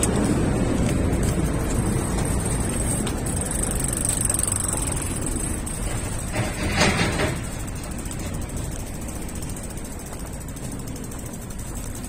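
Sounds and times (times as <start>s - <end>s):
road traffic: 0.0s - 12.0s
wind: 0.0s - 12.0s.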